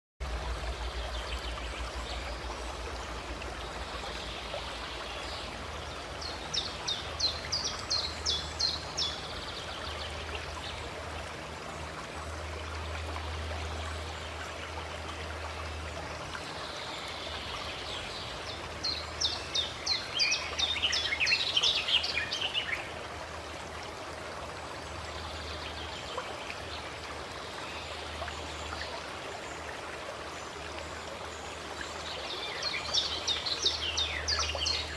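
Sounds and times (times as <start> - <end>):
spring water flowing: 0.2 - 34.9.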